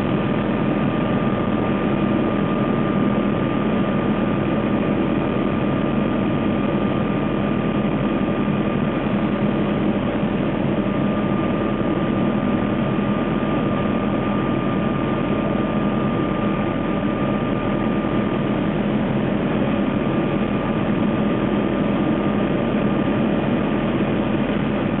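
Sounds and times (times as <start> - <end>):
helicopter cabin drone: 0.0 - 25.0
thin steady high whine: 0.0 - 25.0.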